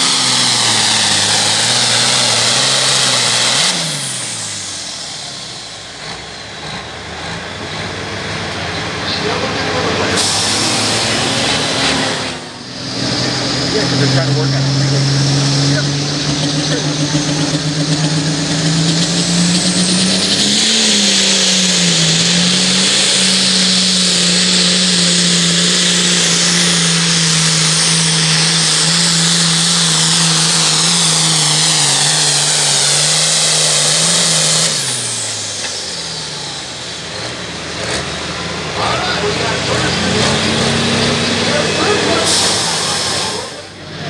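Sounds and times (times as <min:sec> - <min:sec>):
tractor diesel engine at high revs: 0:00.0 - 0:44.0.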